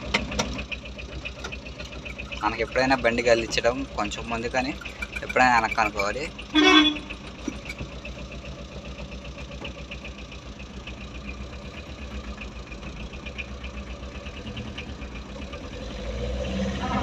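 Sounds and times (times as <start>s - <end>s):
truck engine idling: 0.0s - 17.0s
rapid regular ticking: 0.4s - 15.6s.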